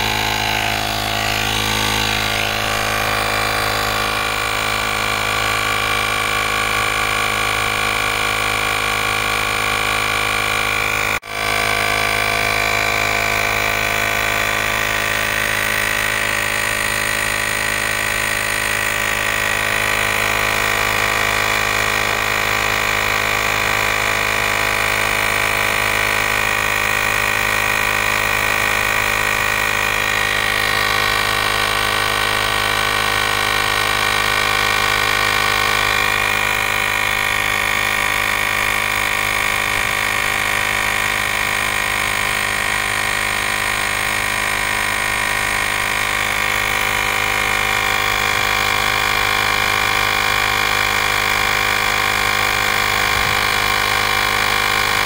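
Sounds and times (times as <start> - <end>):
electric air compressor running: 0.0 - 55.0.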